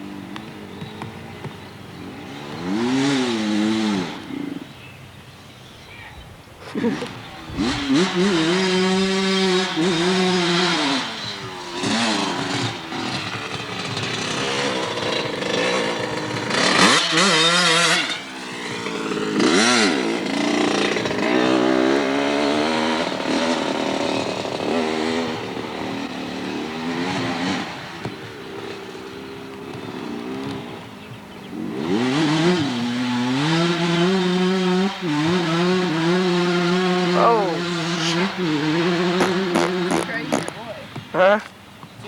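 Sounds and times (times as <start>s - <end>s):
dirt bike engine revving: 0.0s - 5.8s, 6.6s - 42.0s.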